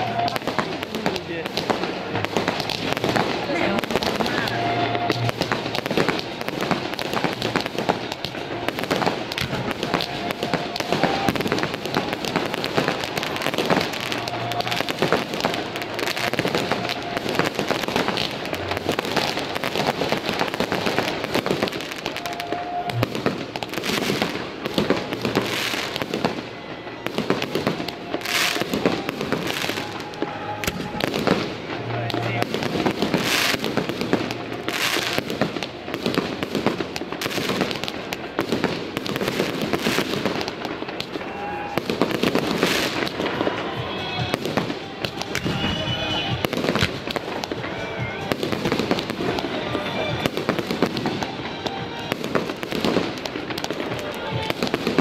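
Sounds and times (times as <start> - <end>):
fireworks crackling and banging: 0.0 - 55.0
fireworks hissing streaks: 0.0 - 55.0.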